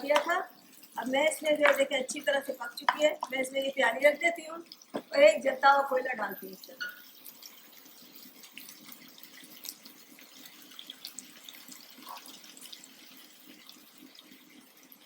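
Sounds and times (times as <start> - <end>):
charcoal sizzling and crackling: 0.0 - 15.0.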